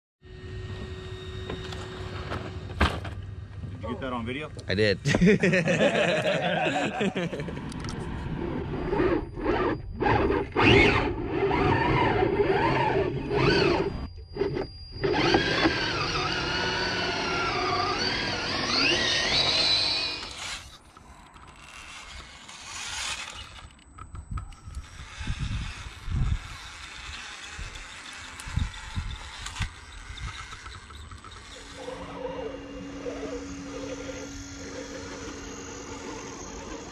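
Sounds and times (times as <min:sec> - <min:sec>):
electric motor and gearbox whining: 0:00.2 - 0:36.9.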